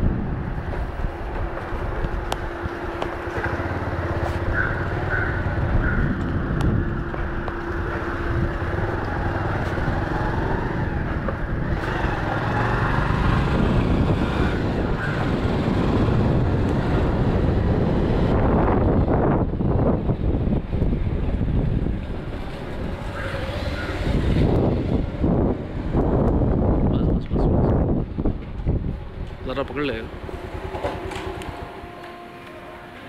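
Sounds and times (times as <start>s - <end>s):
wind rumbling on microphone: 0.0s - 32.0s.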